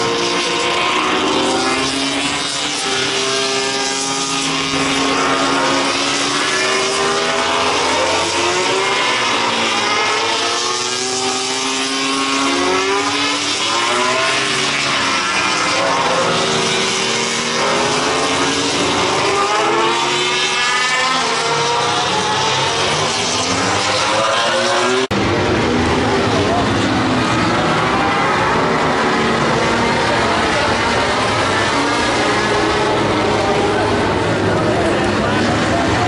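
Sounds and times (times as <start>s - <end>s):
racing motorcycles passing: 0.0s - 36.0s.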